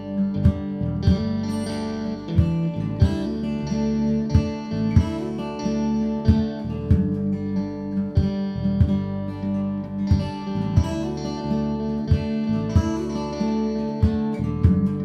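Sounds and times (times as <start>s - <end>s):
instrumental guitar music: 0.0s - 15.0s
low beats: 0.0s - 15.0s.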